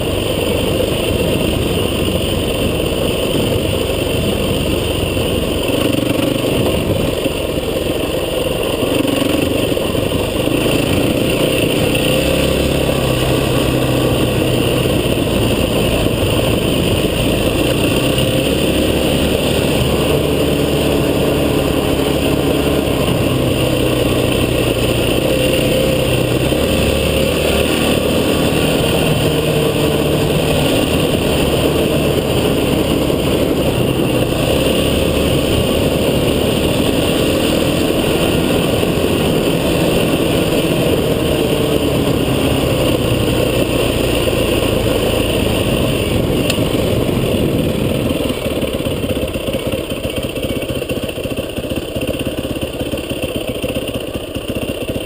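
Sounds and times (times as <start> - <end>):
vehicle engine revving: 0.0 - 53.6
road and wind noise: 0.0 - 55.0.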